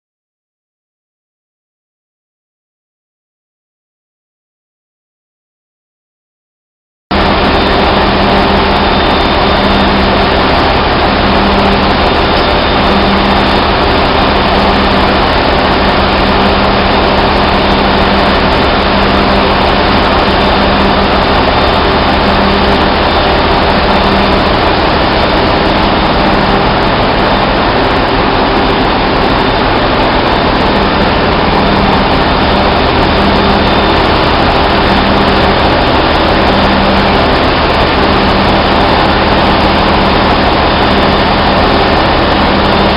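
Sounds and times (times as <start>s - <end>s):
heavy machinery droning: 7.1s - 42.9s.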